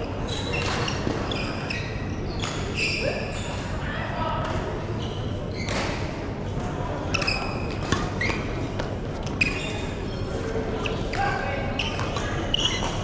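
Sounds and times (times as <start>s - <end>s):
murmur of sports hall: 0.0s - 13.0s.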